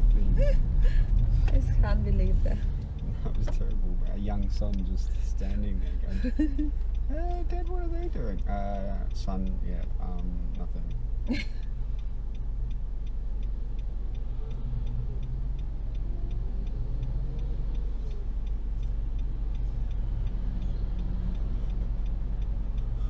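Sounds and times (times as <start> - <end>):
car engine idling: 0.0 - 23.0
faint passing traffic: 0.0 - 23.0
turn signal clicking: 0.0 - 23.0.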